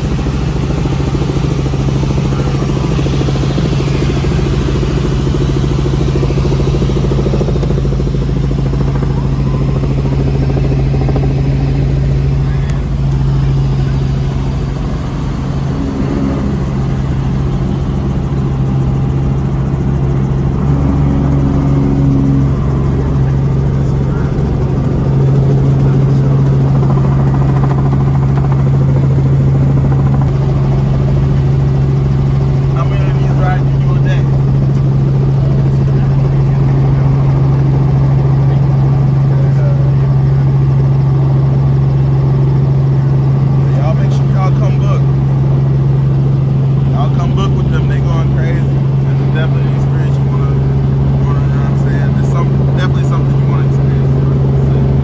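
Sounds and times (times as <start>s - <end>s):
helicopter droning: 0.0s - 55.0s.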